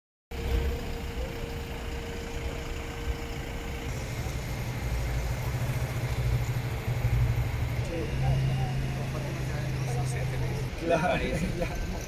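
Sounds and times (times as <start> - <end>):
low engine hum: 0.3 - 12.0
vehicle engines rumbling: 0.3 - 12.0.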